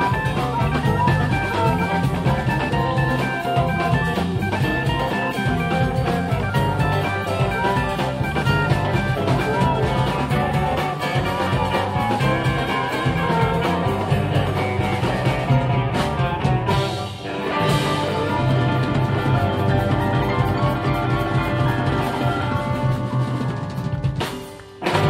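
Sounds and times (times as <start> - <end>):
bass guitar: 0.0 - 25.0
drums: 0.0 - 25.0
electric guitar: 0.0 - 25.0.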